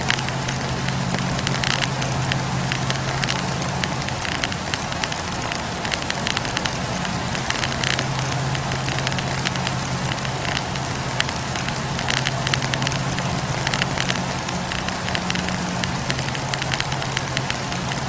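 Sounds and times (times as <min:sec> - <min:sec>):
campfire crackling and popping: 0:00.0 - 0:18.0
low steady hum: 0:00.0 - 0:18.0.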